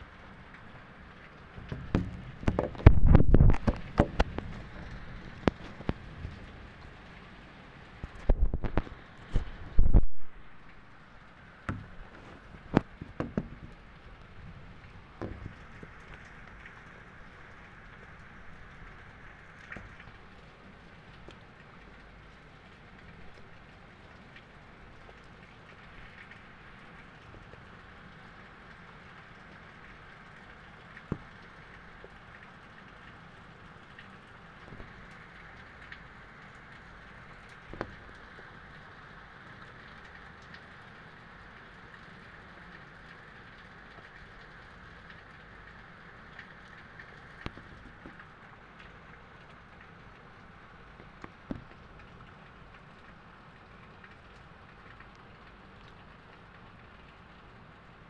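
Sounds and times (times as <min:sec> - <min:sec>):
raindrops ticking: 0:00.0 - 0:58.0
steady rain hiss: 0:00.0 - 0:58.0.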